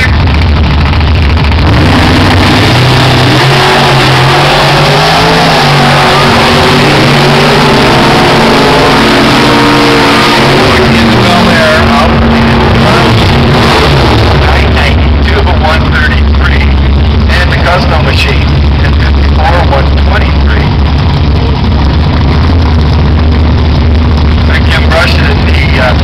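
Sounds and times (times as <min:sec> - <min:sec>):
drag car engines racing: 0:00.0 - 0:26.0.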